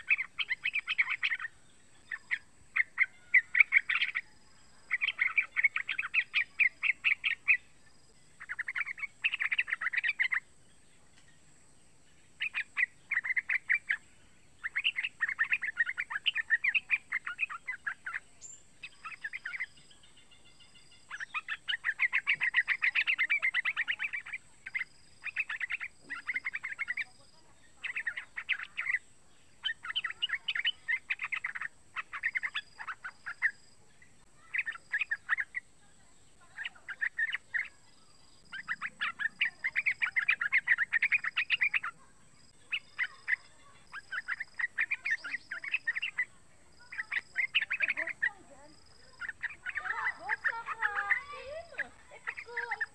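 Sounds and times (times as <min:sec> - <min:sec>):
bird chattering calls: 0:00.0 - 0:10.6, 0:12.1 - 0:52.9.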